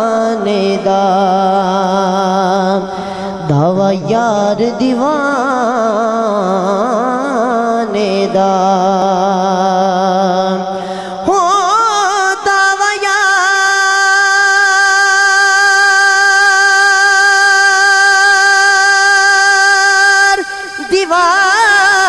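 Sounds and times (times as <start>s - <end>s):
young man singing into microphone: 0.0s - 22.0s.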